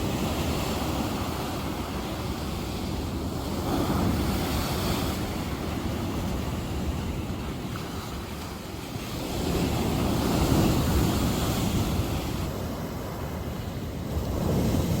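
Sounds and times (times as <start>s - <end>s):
sea waves breaking on shore: 0.0s - 15.0s
wind rumble on microphone: 0.0s - 15.0s.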